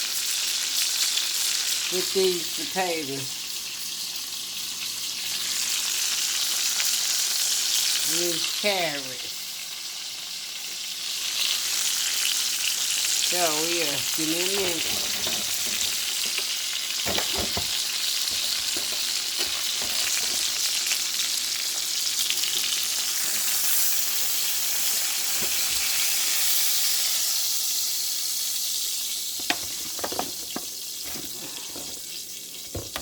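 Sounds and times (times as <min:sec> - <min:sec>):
meat sizzling in a pan: 0:00.0 - 0:33.0.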